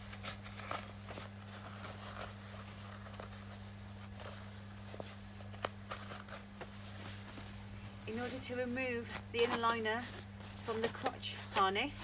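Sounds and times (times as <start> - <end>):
faint clicks and rustles: 0.0 - 12.0
steady low hum: 0.0 - 12.0.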